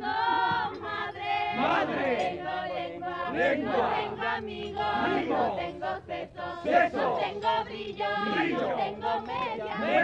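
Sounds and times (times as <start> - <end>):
group singing in chorus: 0.0 - 10.0.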